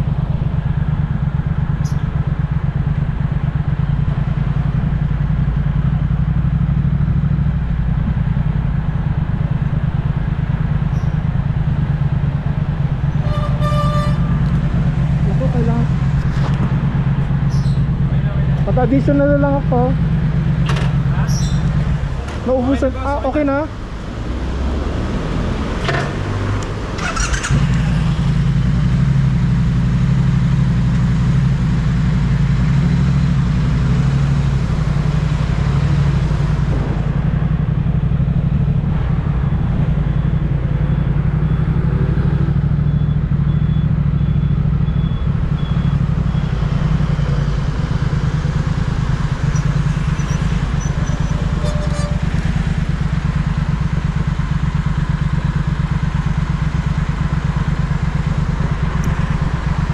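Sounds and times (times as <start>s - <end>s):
motorcycle engine running: 0.0s - 59.9s
road noise: 0.0s - 59.9s.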